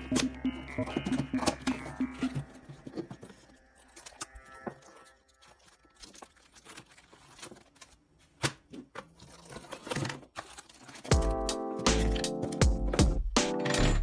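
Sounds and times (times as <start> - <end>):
tools and packaging rustling: 0.0 - 12.7.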